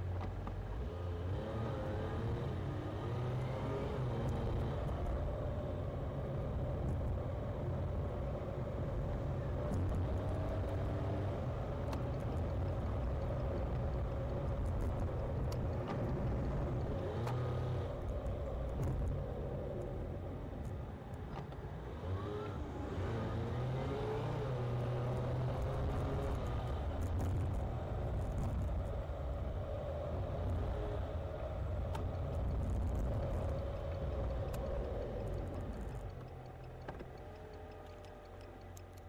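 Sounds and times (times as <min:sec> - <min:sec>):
car engine: 0:00.0 - 0:39.0
road rumble: 0:00.0 - 0:39.0.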